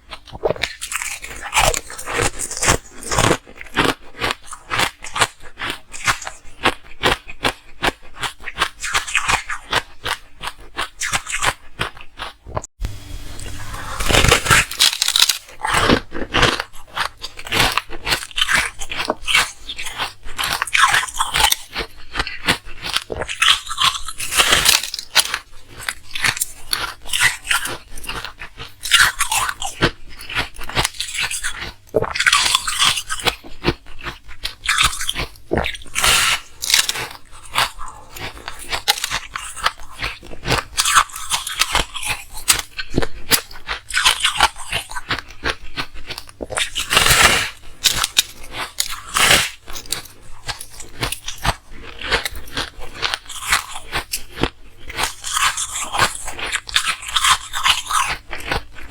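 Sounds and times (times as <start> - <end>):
ice cubes being chewed: 0.0 - 12.7, 13.4 - 58.9.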